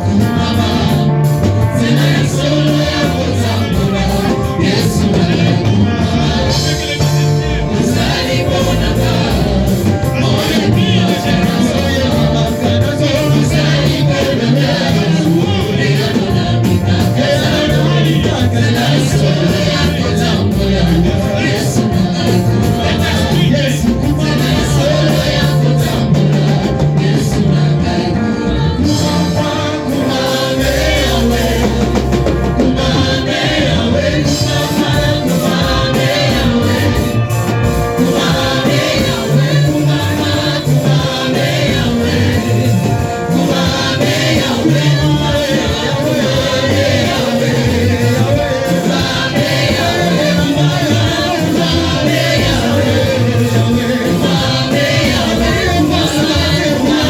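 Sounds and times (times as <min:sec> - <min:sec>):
choir singing gospel music: 0:00.0 - 0:57.0
instrumental backing with deep bass: 0:00.0 - 0:57.0.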